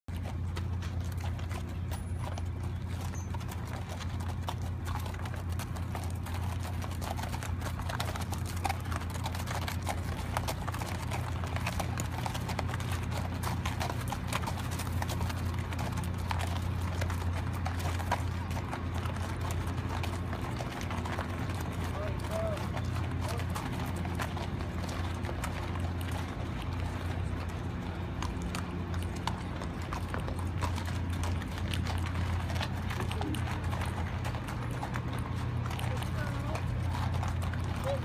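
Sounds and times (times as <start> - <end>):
horse hooves clip-clopping on road: 0.1 - 38.0
steady low hum: 0.1 - 38.0.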